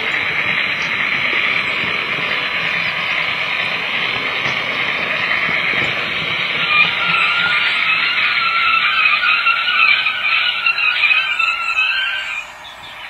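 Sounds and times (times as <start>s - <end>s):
model train running on rails: 0.0s - 13.0s.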